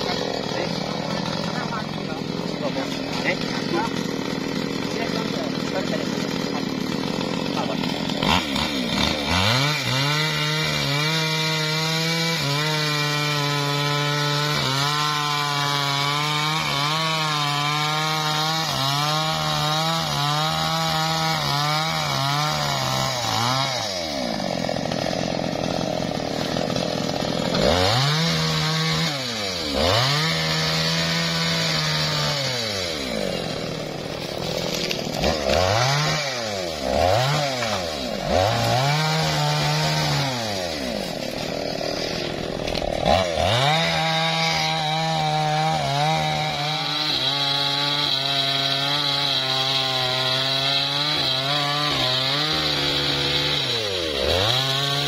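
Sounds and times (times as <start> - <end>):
chainsaw cutting wood: 0.0 - 55.0
chainsaw idling and revving: 0.0 - 55.0.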